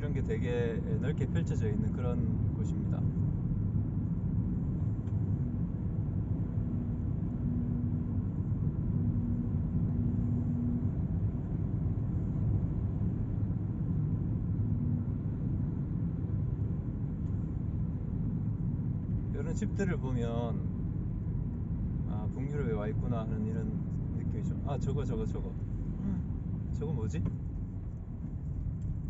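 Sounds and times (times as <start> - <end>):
faint hum: 0.0 - 29.0
vehicle engine and road rumble: 0.0 - 29.0.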